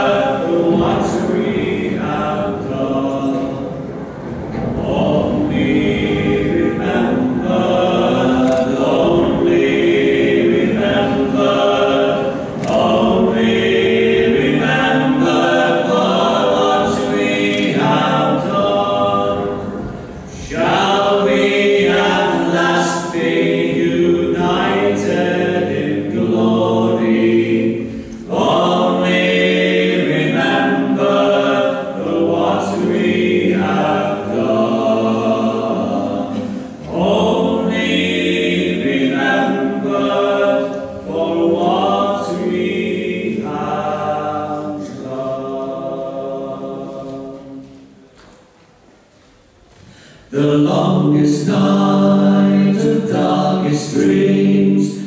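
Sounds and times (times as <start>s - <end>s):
choir singing held notes: 0.0s - 55.0s.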